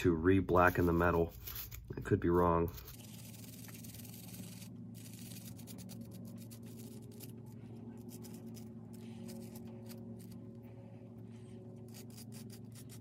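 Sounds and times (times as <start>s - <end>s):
steady low hum: 0.0s - 13.0s
wire brush scrubbing metal: 0.0s - 13.0s.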